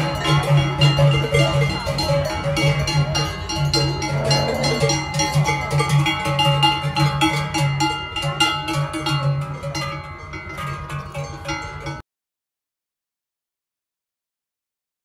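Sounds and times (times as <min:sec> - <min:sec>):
cowbells clanging: 0:00.0 - 0:12.0.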